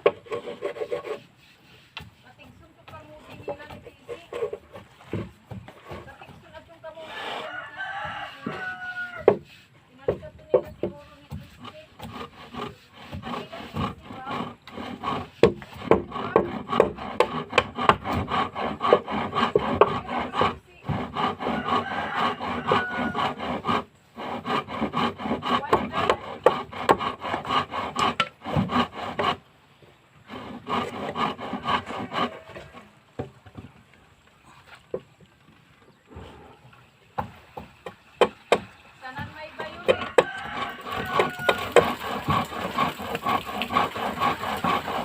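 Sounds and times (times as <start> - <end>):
hand tool scraping wood: 0.0 - 33.7, 37.2 - 45.0.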